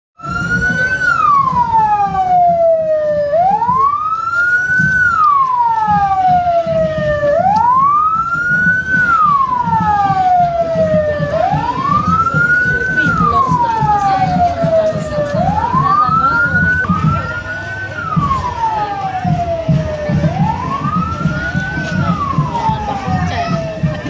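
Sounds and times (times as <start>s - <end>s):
police siren wailing: 0.2s - 24.0s.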